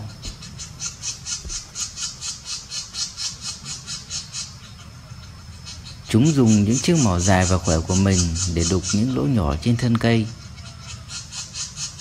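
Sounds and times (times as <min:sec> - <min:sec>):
nestlings begging calls: 0:00.0 - 0:12.0.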